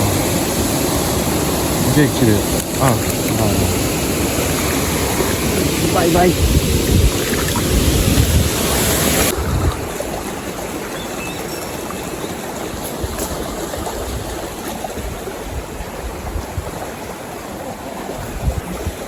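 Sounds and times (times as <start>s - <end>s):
wind buffeting microphone: 0.0s - 10.6s, 13.0s - 17.1s, 18.0s - 19.0s
stream rushing over rocks: 0.0s - 19.0s.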